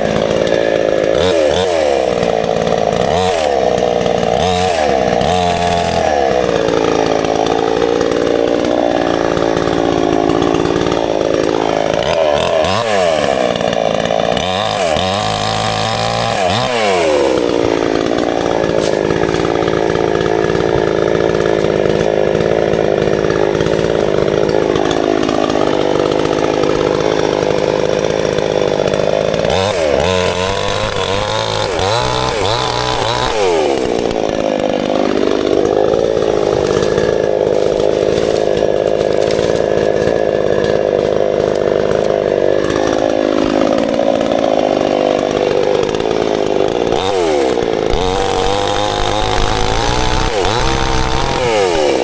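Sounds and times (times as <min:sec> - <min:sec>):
chainsaw revving: 0:00.0 - 0:52.0.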